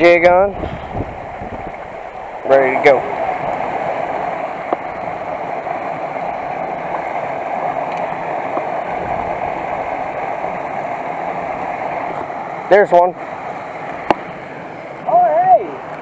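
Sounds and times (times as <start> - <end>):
creek water over rocks: 0.0 - 16.0.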